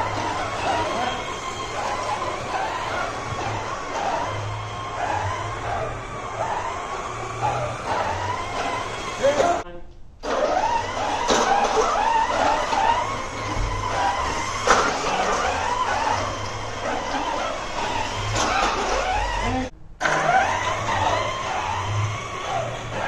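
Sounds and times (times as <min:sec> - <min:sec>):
electric motors whining: 0:00.0 - 0:09.6, 0:10.2 - 0:23.0
low drivetrain rumble: 0:00.0 - 0:09.6, 0:10.3 - 0:23.0.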